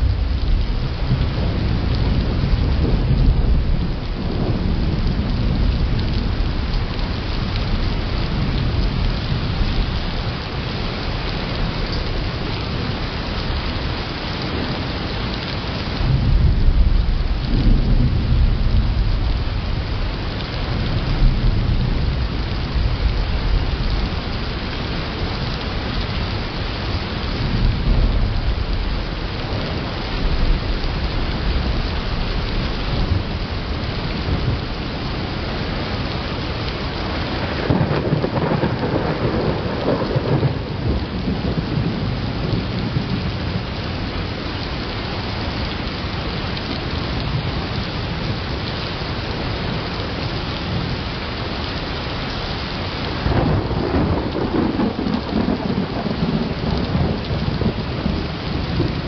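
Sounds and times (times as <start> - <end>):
deep rolling thunder: 0.0 - 13.7, 14.4 - 44.2, 53.0 - 59.0
heavy rain hissing: 0.0 - 59.0.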